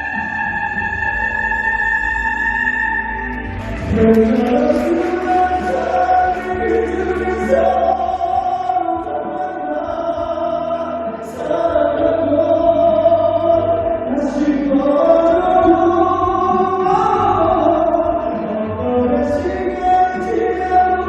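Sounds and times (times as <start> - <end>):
backing music: 0.0 - 21.0
man singing a slow ballad: 3.6 - 21.0.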